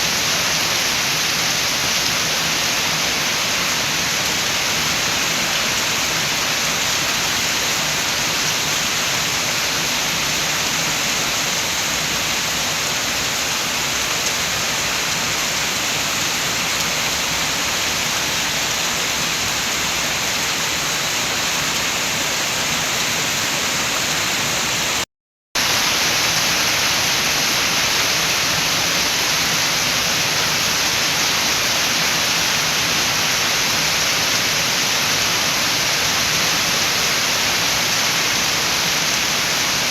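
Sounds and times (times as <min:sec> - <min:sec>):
wind: 0:00.0 - 0:25.0, 0:25.6 - 0:39.9
heavy rain: 0:00.0 - 0:39.9.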